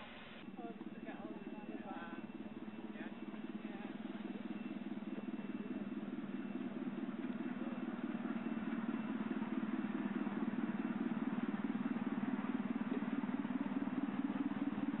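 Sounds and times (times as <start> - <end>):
miniature train pulsing drive drone: 0.0 - 15.0.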